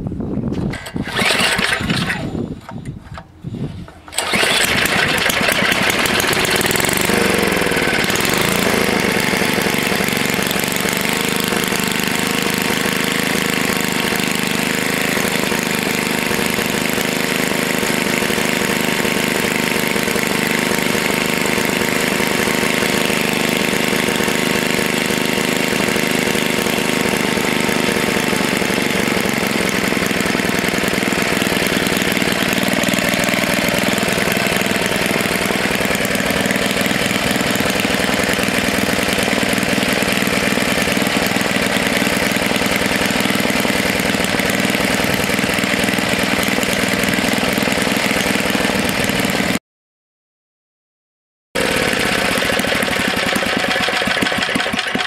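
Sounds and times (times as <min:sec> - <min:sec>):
small engine sputtering and running: 0:00.7 - 0:02.8, 0:04.0 - 0:49.6, 0:51.6 - 0:55.0.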